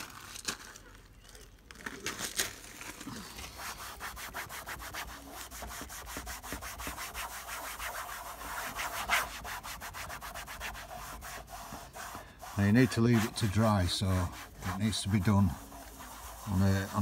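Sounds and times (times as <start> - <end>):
cloth rubbing plastic trim: 2.9 - 17.0.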